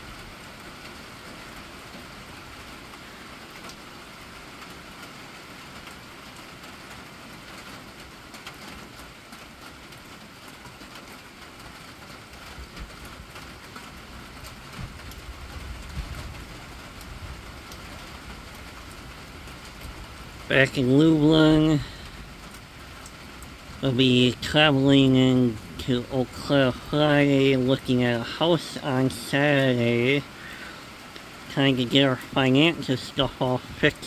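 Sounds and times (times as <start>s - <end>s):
heavy rain on pavement: 0.0s - 34.0s.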